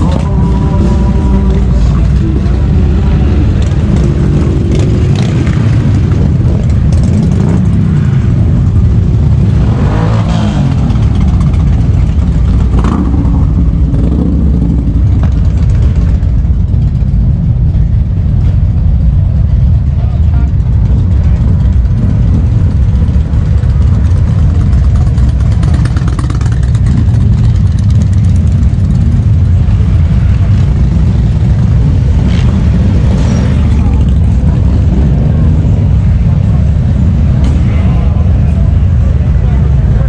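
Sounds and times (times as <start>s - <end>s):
motorcycle engines revving: 0.0s - 40.0s
street traffic rumble: 0.0s - 40.0s.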